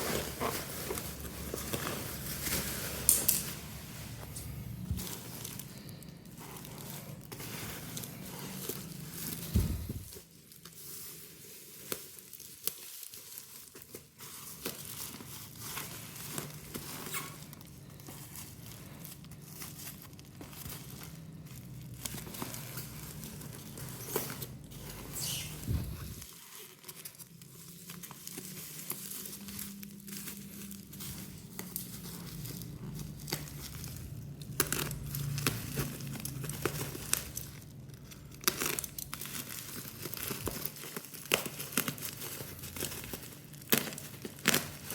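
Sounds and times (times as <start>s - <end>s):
packaging crinkling: 0.0s - 44.9s.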